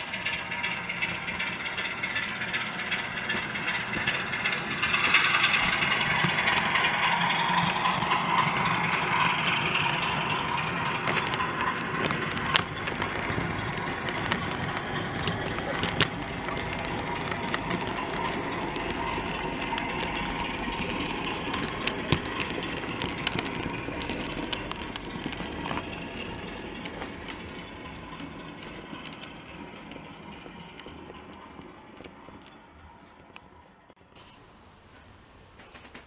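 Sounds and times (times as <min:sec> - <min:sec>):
model trains whirring on track: 0:00.0 - 0:36.0.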